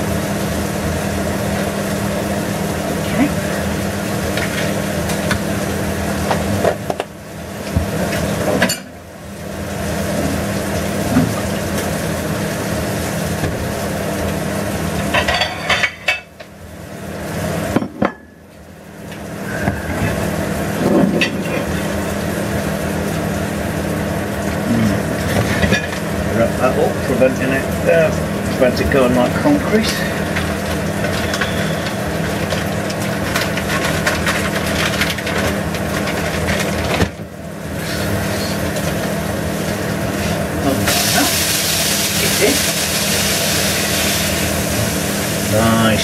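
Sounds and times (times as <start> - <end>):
food sizzling in hot fat: 0.0 - 17.8, 18.7 - 46.0.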